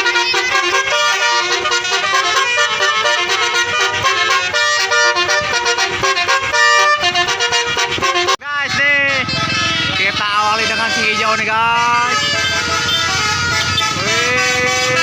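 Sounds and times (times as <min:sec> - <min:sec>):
bus horn playing a melody: 0:00.0 - 0:15.0.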